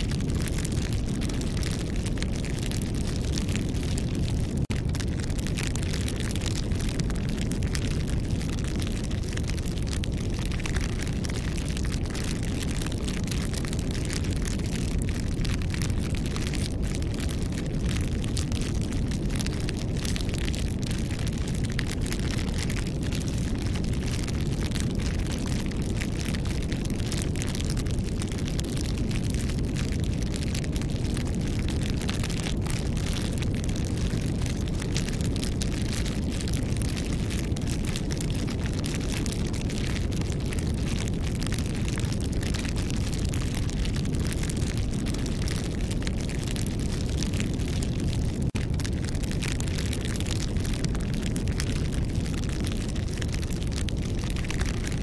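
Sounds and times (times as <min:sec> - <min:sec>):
steady low rumble: 0:00.0 - 0:52.5
campfire crackling and popping: 0:00.0 - 0:55.0.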